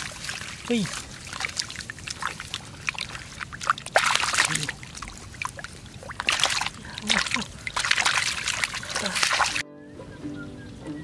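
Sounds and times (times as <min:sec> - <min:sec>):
splashing in shallow water: 0:00.0 - 0:09.6.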